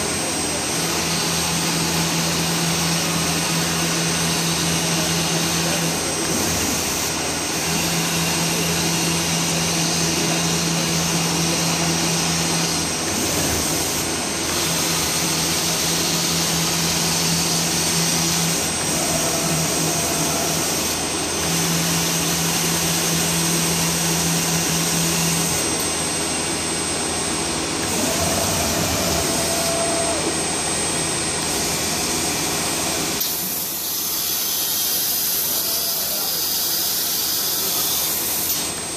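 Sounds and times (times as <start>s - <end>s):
cnc spindle whine: 0.0s - 38.9s.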